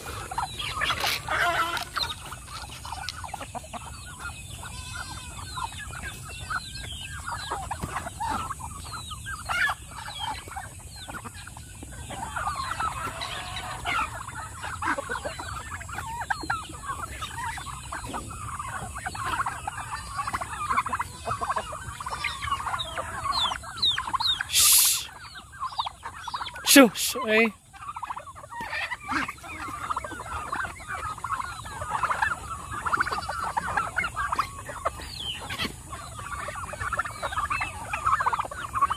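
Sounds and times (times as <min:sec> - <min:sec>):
turkeys and chickens clucking: 0:00.0 - 0:38.9.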